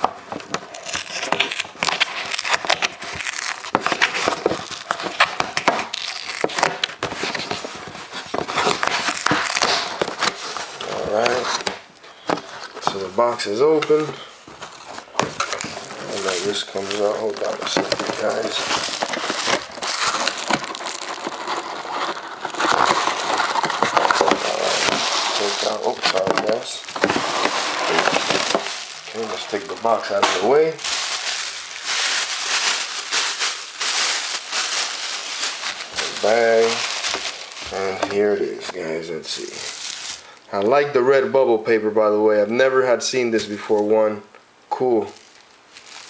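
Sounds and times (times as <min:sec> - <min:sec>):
tissue paper and plastic crinkling: 0:00.7 - 0:40.4, 0:45.0 - 0:46.0.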